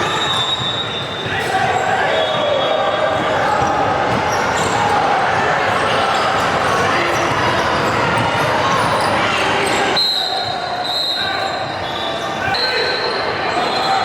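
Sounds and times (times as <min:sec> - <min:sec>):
spectators talking and shouting: 0:00.0 - 0:14.0.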